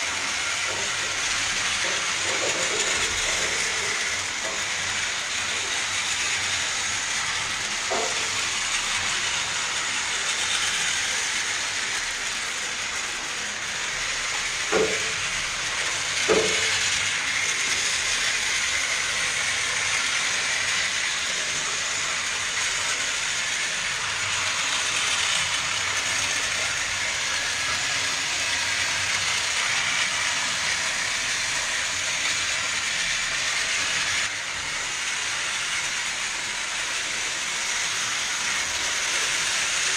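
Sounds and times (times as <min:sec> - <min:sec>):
toy train motors whirring: 0:00.0 - 0:39.9
wheels rattling on plastic track: 0:00.0 - 0:39.9.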